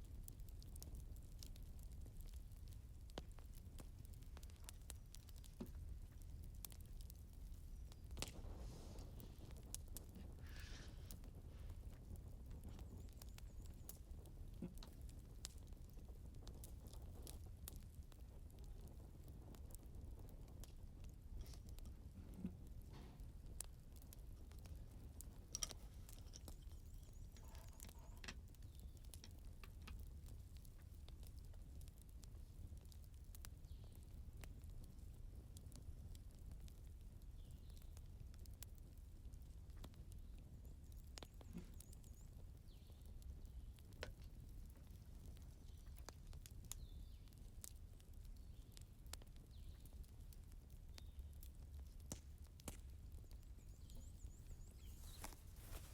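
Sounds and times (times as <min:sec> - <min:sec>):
low fire rumble: 0:00.0 - 0:55.9
wood fire crackling and popping: 0:00.0 - 0:55.9.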